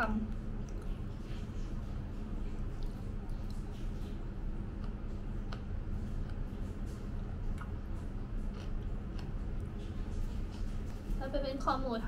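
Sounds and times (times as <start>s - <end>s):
low room hum: 0.0s - 12.0s
person chewing: 0.3s - 10.9s.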